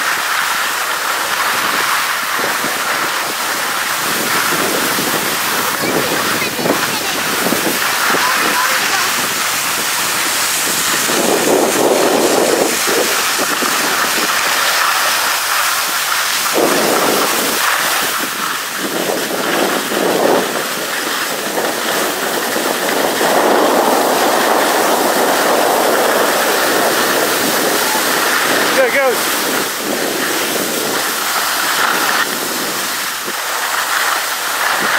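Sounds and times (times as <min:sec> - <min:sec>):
skis scraping over packed snow: 0:00.0 - 0:34.9
wind rushing on microphone: 0:01.3 - 0:34.9.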